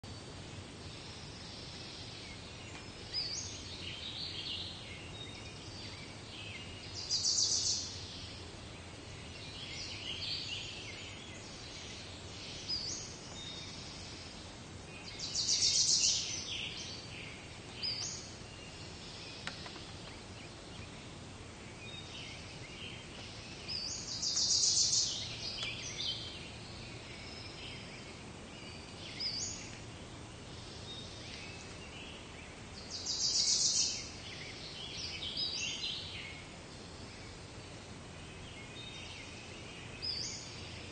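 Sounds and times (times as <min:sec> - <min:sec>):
small birds chirping: 0:00.0 - 0:40.9
steady low background noise: 0:00.0 - 0:40.9.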